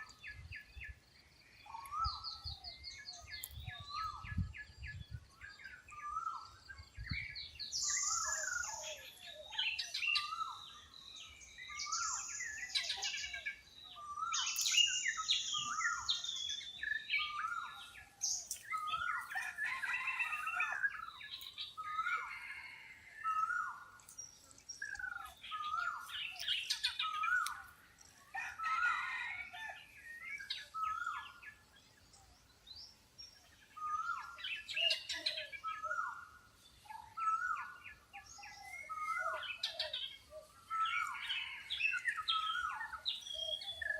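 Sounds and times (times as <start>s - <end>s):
birds chirping and trilling: 0.0s - 43.9s.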